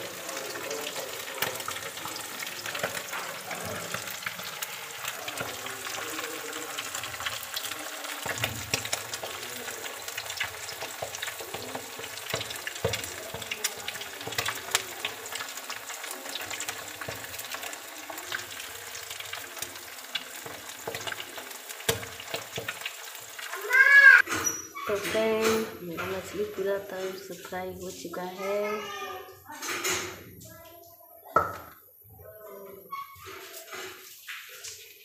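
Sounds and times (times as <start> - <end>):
fish frying in hot oil: 0.0 - 30.3.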